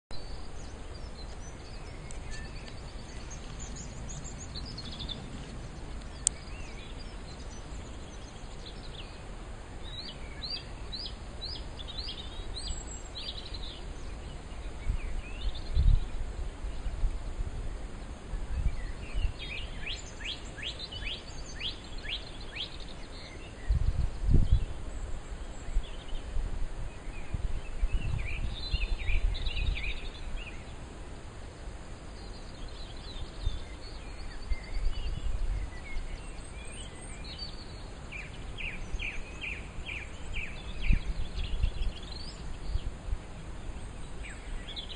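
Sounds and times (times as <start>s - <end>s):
small birds chirping: 0.1s - 44.9s
steady low background noise: 0.1s - 44.9s.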